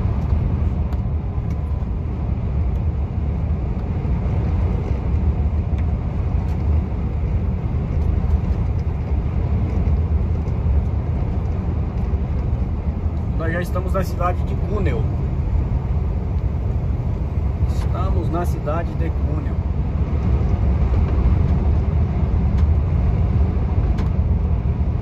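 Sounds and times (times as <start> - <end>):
truck engine and tyres rumbling: 0.0 - 25.0.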